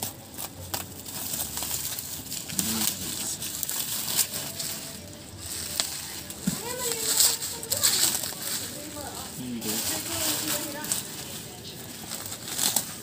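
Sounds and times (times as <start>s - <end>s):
bubble wrap crinkling and rustling: 0.0s - 13.0s
sharp crackles: 0.0s - 13.0s.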